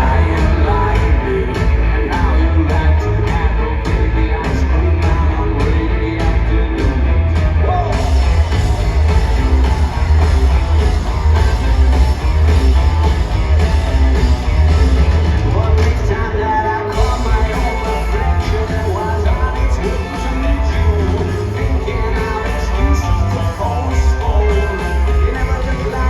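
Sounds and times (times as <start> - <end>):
rock band playing loudly: 0.0 - 26.0.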